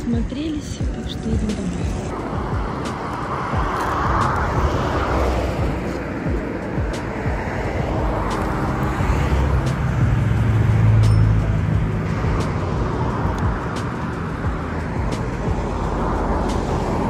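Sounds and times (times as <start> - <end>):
car engine hum: 0.0 - 17.0
road noise: 0.0 - 17.0.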